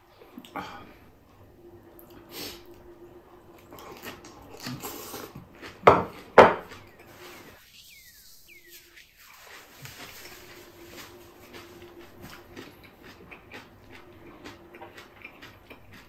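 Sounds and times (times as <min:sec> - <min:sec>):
man chewing: 0:02.0 - 0:16.0.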